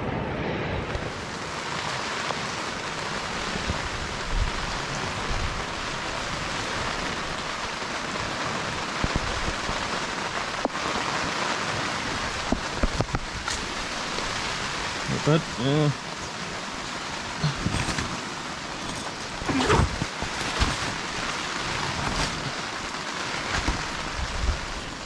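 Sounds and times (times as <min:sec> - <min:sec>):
rain pattering on canvas: 0:00.9 - 0:25.0.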